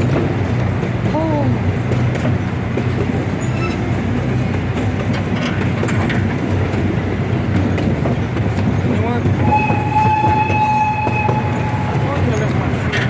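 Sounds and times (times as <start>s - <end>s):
train rumbling on rails: 0.0s - 13.0s
wheels clickety-clack: 0.0s - 13.0s.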